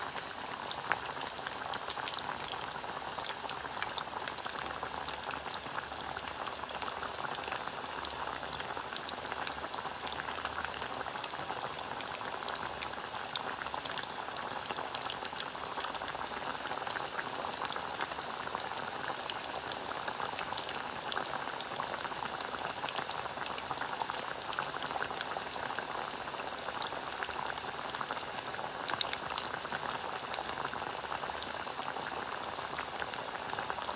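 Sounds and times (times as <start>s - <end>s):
hot oil sizzling in a pan: 0.0s - 33.9s.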